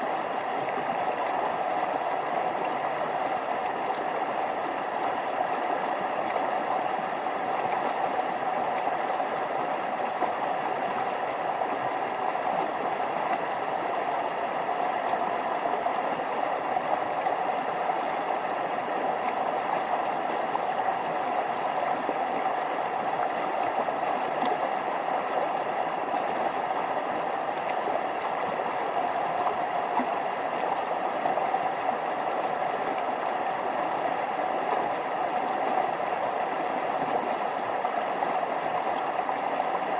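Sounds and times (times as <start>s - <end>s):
stream flowing over small waterfalls: 0.0s - 39.9s.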